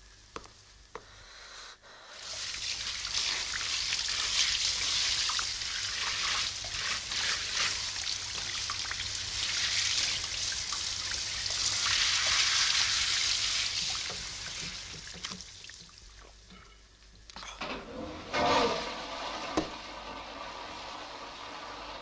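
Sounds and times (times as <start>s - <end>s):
water running with spattering hiss: 0.0s - 16.5s, 17.2s - 22.0s.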